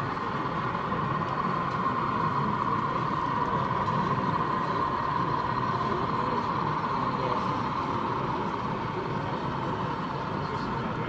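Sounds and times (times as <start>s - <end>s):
steady hum with whir: 0.0s - 11.0s.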